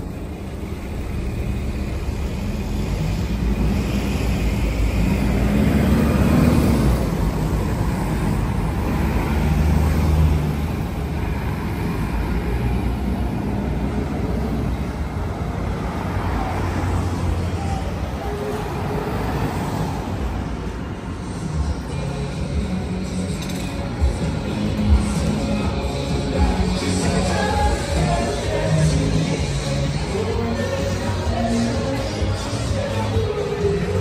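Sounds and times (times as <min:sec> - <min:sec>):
cars passing close: 0:00.0 - 0:34.0
traffic rumble: 0:00.0 - 0:34.0.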